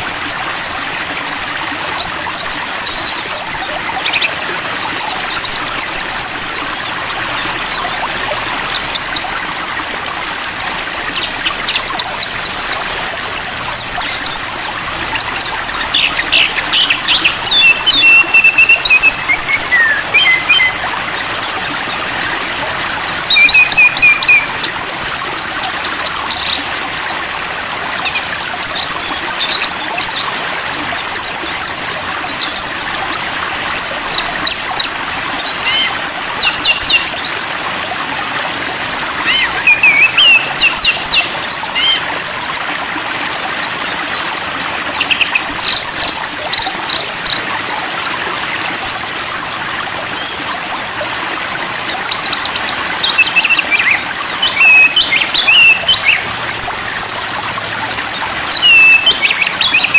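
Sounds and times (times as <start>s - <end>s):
running water: 0.0s - 59.9s
songbirds chirping and whistling: 0.0s - 59.9s.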